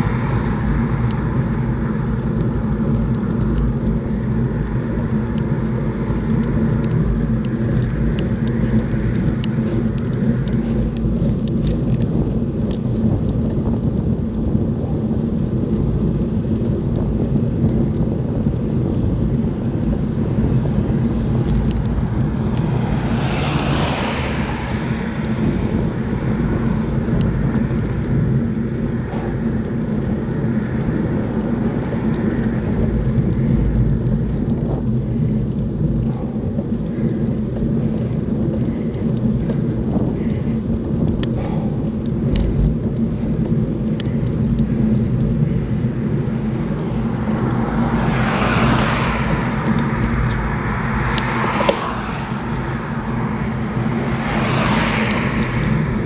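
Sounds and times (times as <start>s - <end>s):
motor vehicle passing: 0.0s - 56.0s
wind and road noise: 0.0s - 56.0s.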